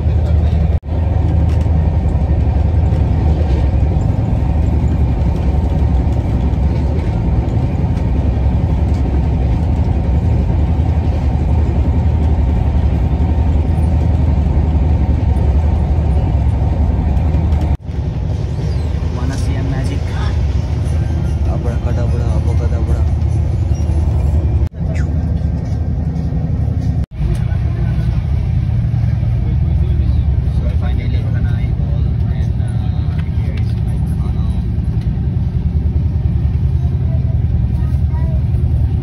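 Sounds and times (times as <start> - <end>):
train rumbling inside coach: 0.0 - 39.0.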